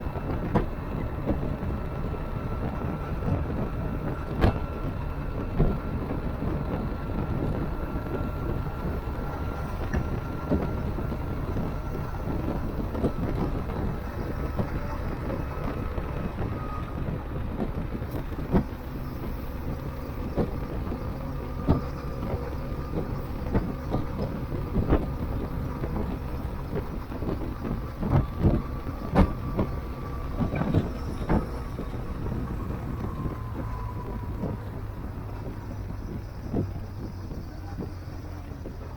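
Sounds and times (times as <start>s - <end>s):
motorcycle engine rumble: 0.0s - 38.9s
road and wind noise: 0.0s - 38.9s.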